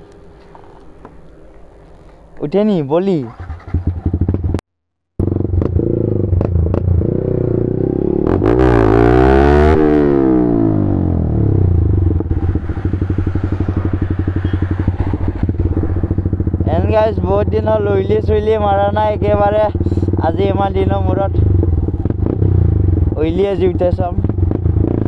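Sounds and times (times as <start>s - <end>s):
motorcycle engine revving: 3.2s - 4.6s, 5.2s - 25.0s.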